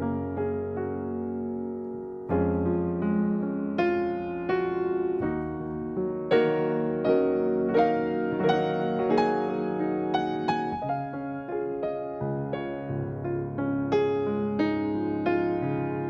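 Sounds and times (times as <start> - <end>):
calm piano music: 0.0 - 16.0.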